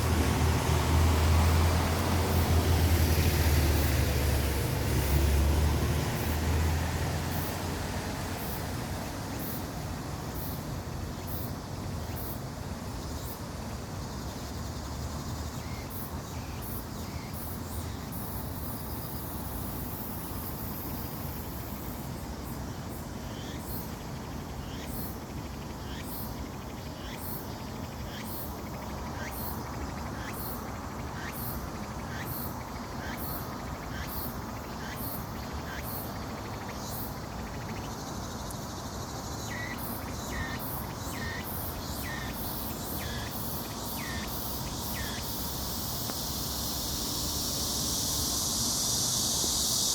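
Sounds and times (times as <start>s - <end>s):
insects chirping: 0.0s - 49.9s.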